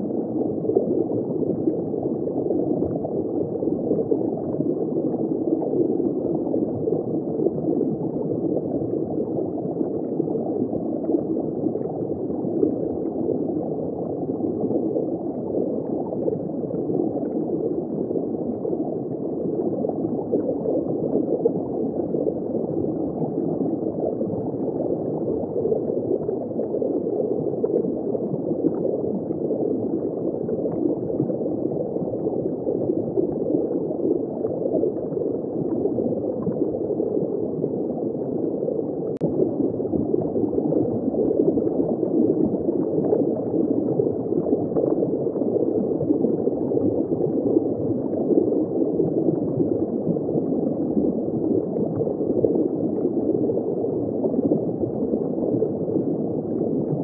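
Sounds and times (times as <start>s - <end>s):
muffled underwater water rush: 0.0s - 57.0s.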